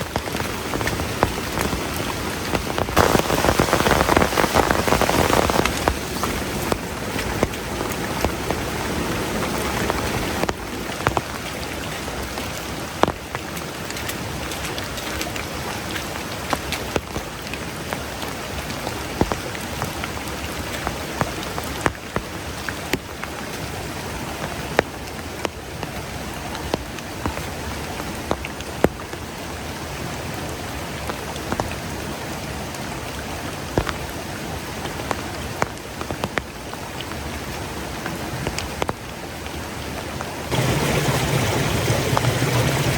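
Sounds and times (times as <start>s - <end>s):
heavy rain hiss: 0.0s - 42.9s
raindrops tapping a surface: 0.0s - 42.9s.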